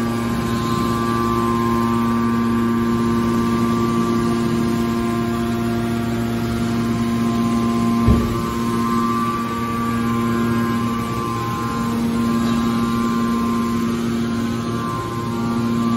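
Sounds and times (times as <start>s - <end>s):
hydraulic power unit humming: 0.0s - 15.9s.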